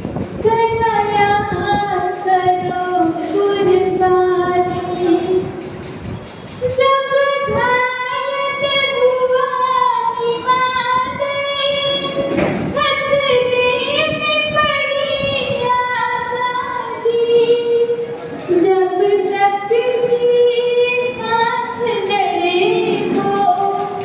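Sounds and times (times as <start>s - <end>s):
young woman singing: 0.4s - 5.5s, 6.6s - 24.0s.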